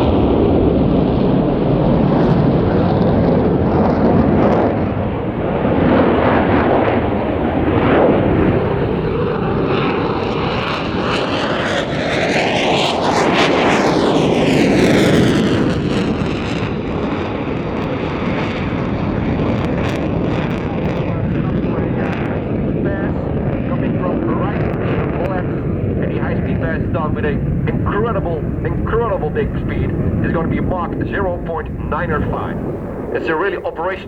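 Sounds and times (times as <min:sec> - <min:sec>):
jet engine roaring past: 0:00.0 - 0:34.0.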